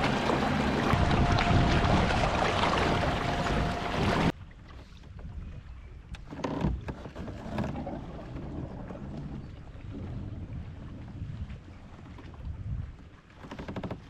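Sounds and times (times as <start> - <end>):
wind and water rushing: 0.0 - 14.0.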